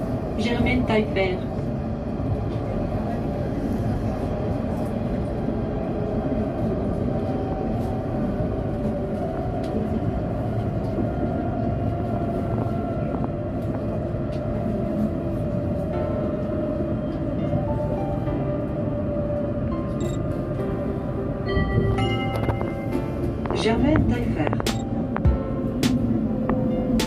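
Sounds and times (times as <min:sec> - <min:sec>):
tram rolling rumble: 0:00.0 - 0:27.0.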